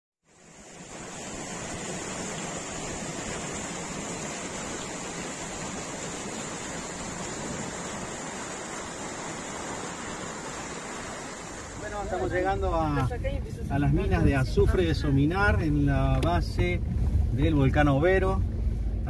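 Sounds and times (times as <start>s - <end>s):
stream rushing over boulders: 0.2s - 19.0s.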